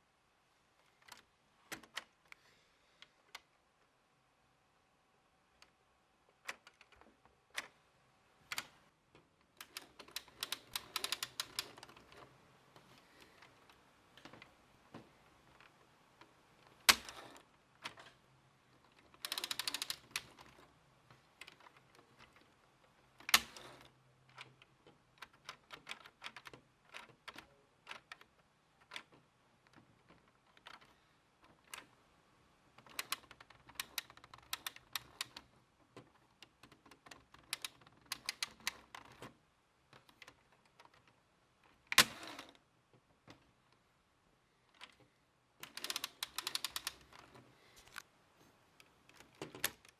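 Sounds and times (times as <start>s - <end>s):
plastic parts clicking and rattling: 0.8s - 2.4s, 5.5s - 7.8s, 8.4s - 32.1s, 32.7s - 43.9s, 44.6s - 48.1s, 48.8s - 49.9s.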